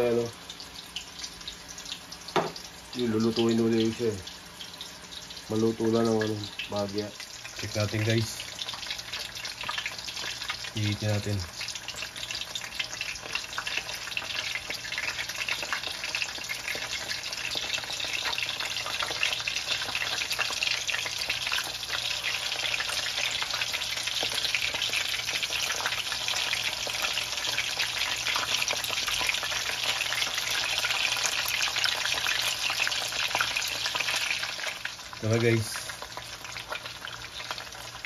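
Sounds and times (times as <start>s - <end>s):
meatballs sizzling in oil: 0.0s - 38.0s.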